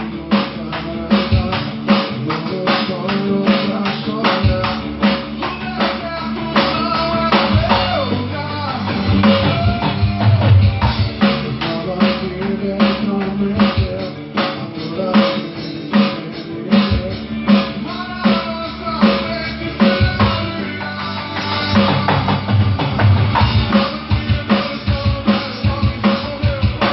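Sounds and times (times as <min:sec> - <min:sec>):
drum kit beat: 0:00.0 - 0:26.9
recorded song with guitar: 0:00.0 - 0:26.9.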